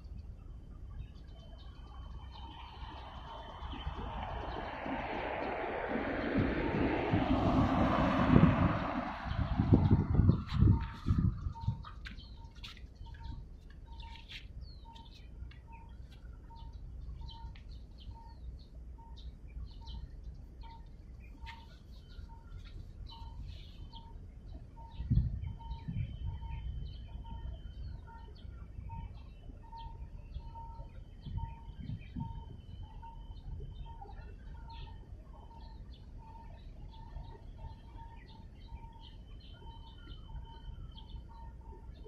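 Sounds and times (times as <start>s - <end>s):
birds chirping: 0.0s - 42.0s
wind rumbling on microphone: 0.0s - 42.0s.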